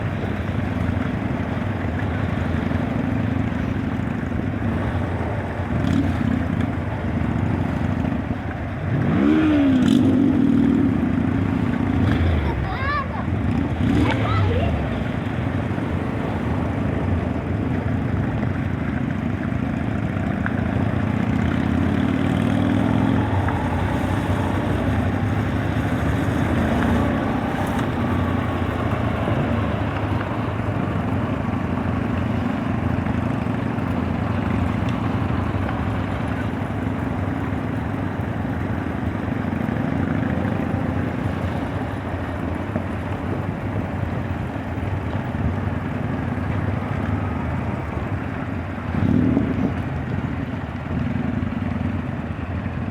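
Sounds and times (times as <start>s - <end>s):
racing truck engine droning: 0.0s - 52.9s.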